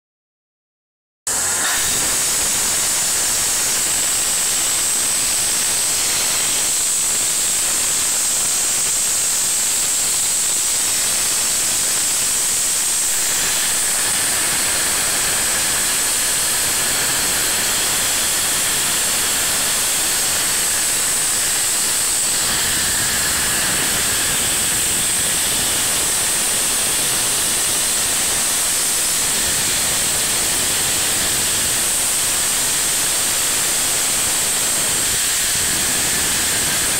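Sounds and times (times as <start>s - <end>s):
steam hissing: 1.3s - 36.9s.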